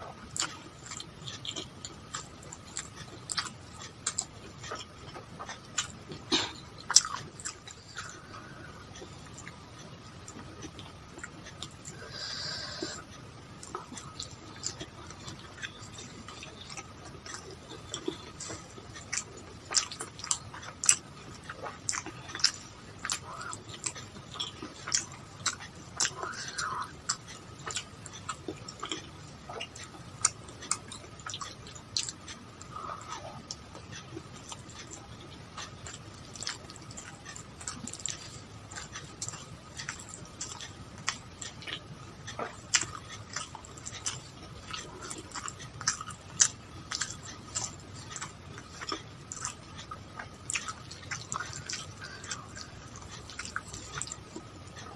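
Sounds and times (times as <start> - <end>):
mouth clicks and crunches: 0.0 - 54.9
person chewing food: 0.0 - 54.9.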